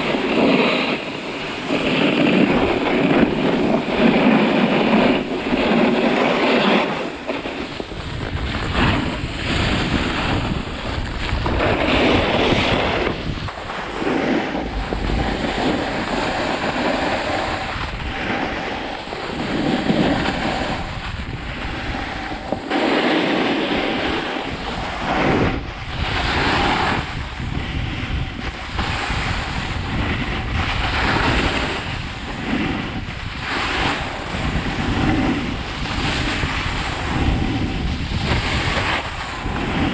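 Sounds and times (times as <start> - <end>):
snowboard sliding on snow: 0.0 - 39.9
wind buffeting microphone: 0.0 - 39.9.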